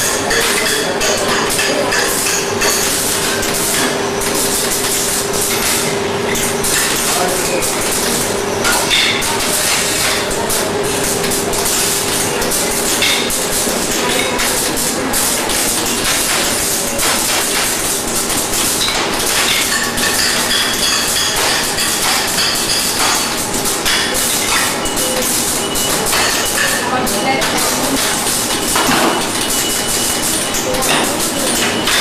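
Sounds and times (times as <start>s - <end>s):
machines clattering and clicking: 0.0s - 32.0s
machine hum: 2.1s - 32.0s.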